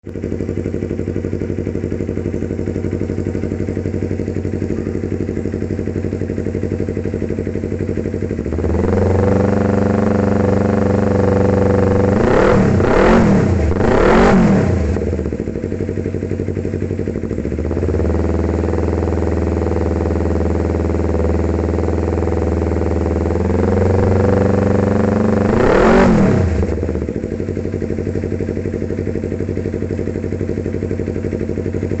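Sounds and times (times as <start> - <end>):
motorcycle engine idling and revving: 0.0 - 32.0.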